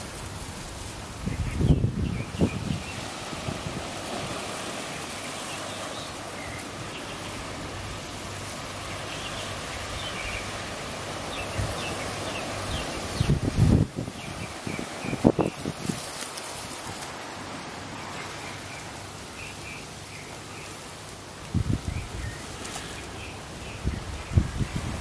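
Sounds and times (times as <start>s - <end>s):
small waves on rocky shore: 0.0s - 25.0s
wind hissing: 0.0s - 25.0s.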